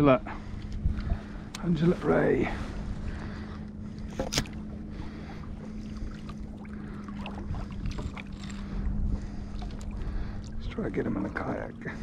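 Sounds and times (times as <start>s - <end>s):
faint steady hum: 0.0s - 12.0s
wind rumbling on microphone: 0.0s - 12.0s
water lapping against kayak: 0.2s - 12.0s.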